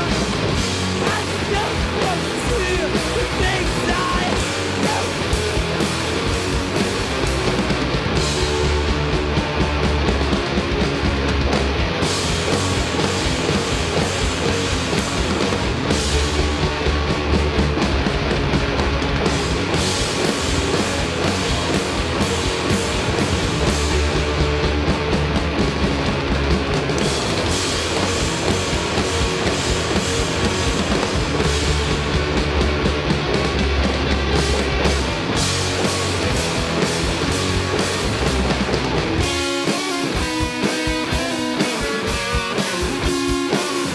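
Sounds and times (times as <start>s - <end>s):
distorted electric guitars: 0.0s - 43.9s
drum kit: 0.0s - 43.9s
electric bass: 0.0s - 43.9s.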